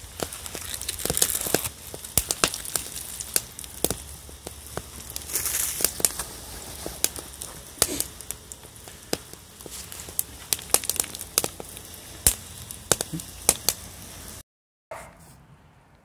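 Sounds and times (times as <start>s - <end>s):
sausages frying crackles and pops: 0.0s - 14.4s.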